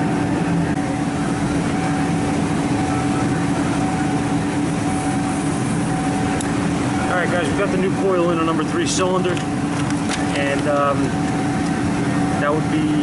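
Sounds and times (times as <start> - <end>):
engine running: 0.0 - 13.0
high-pitched whine: 0.0 - 13.0
low hum: 0.0 - 13.0
shop heater: 0.0 - 13.0.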